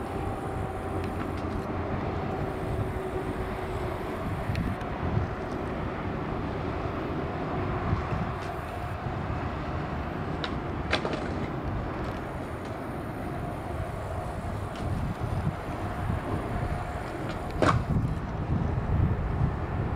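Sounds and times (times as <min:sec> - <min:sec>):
low rumble of city noise: 0:00.0 - 0:19.9.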